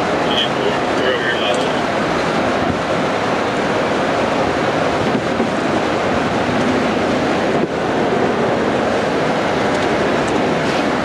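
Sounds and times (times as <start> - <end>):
loud rushing cabin noise: 0.0 - 11.0.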